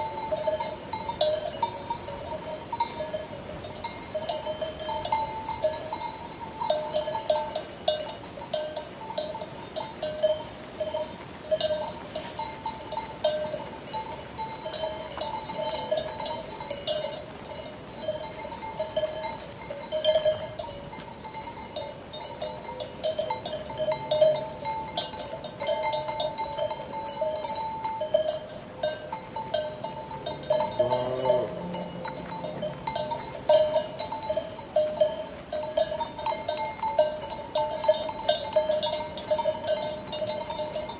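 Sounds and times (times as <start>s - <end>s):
sheep bells clanking: 0.0s - 40.9s.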